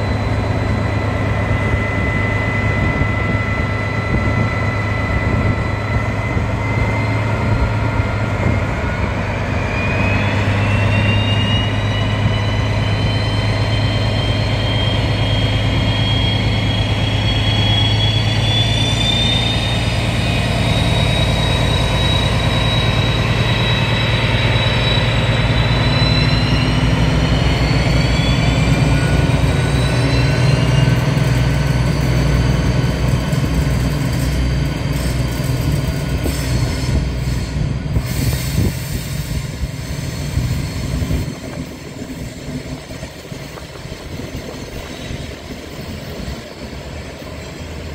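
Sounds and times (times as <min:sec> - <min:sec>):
high whine rising in pitch: 0:00.0 - 0:47.9
locomotive engine drone: 0:00.0 - 0:47.9.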